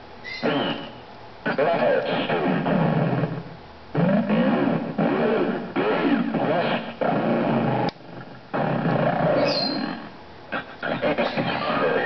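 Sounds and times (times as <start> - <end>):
glitching robotic synthesized voice: 0.3 - 3.4, 4.0 - 12.0.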